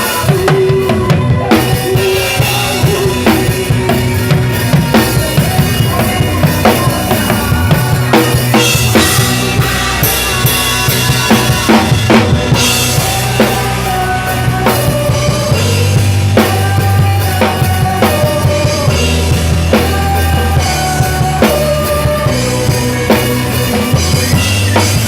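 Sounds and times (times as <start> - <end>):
drum kit playing: 0.0 - 25.0
worship music: 0.0 - 25.0.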